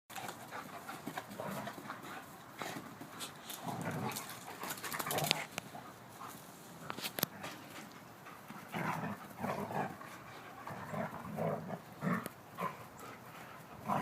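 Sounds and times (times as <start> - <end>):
dogs panting: 0.1 - 14.0.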